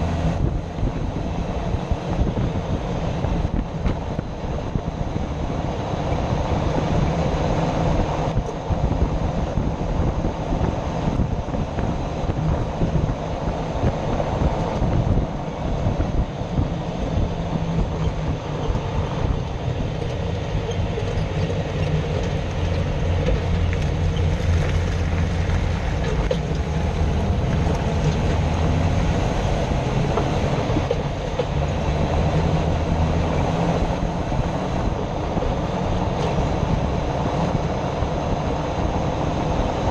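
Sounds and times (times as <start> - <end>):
grinding under vehicle: 0.0 - 39.9
road and drivetrain rumble: 0.0 - 39.9.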